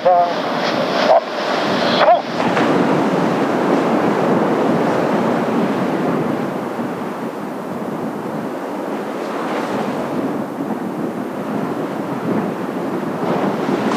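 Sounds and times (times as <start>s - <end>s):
surf rushing: 0.0s - 13.9s
wind buffeting microphone: 0.0s - 13.9s.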